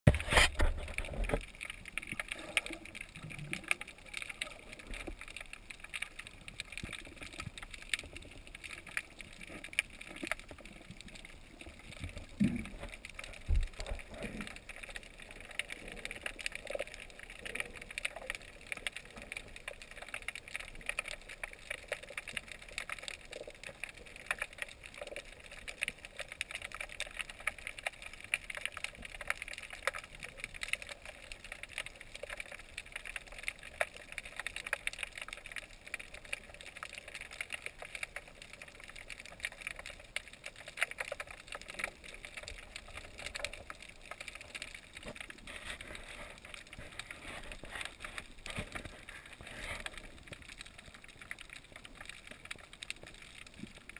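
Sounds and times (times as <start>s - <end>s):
underwater crackle of tiny clicks: 0.1s - 53.9s.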